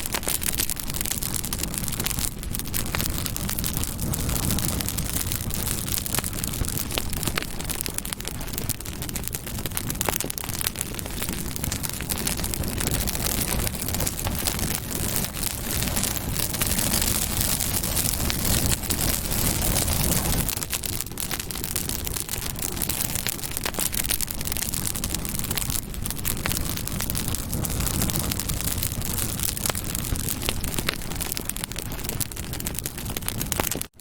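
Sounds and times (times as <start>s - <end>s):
campfire crackling: 0.0s - 34.0s
low rumble of flames: 0.0s - 34.0s.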